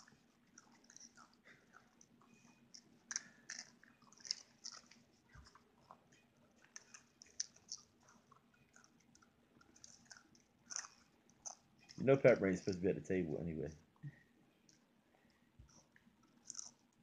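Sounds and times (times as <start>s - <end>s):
crunching and chewing popcorn: 0.0s - 13.3s, 14.6s - 17.0s.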